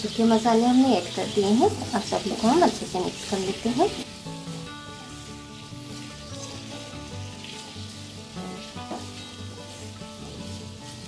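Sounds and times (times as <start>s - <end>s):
potatoes sizzling in oil: 0.0s - 11.0s
soft background music: 0.0s - 11.0s
spatula stirring in pan: 1.4s - 11.0s.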